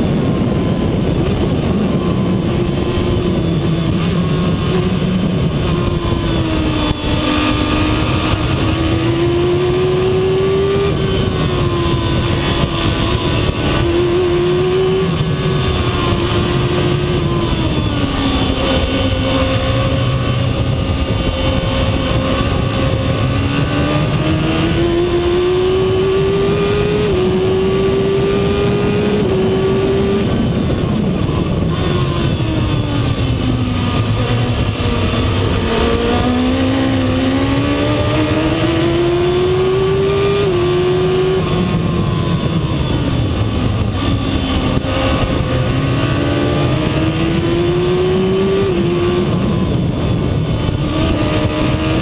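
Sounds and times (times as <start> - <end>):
racing car engine at high revs: 0.0 - 52.0.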